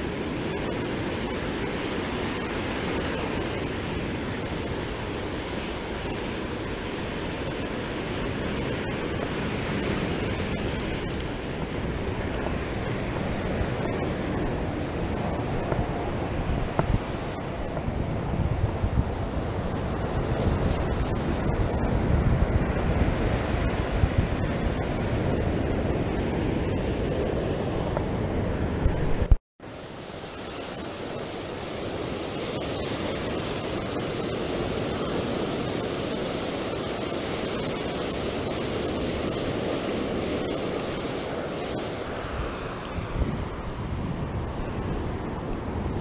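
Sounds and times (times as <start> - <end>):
wind buffeting microphone: 0.0 - 29.4, 30.1 - 46.0
surf breaking on sand: 0.0 - 46.0.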